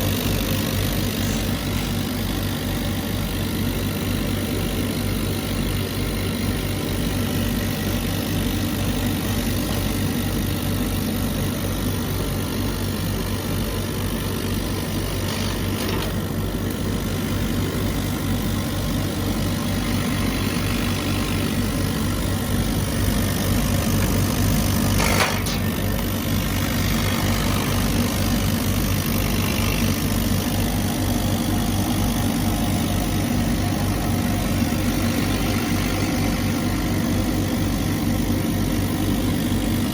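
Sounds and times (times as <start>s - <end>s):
laser cutter droning: 0.0s - 39.9s.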